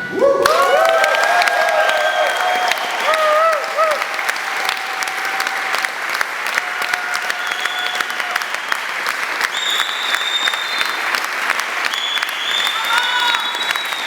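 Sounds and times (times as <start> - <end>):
audience applauding: 0.2 - 14.0.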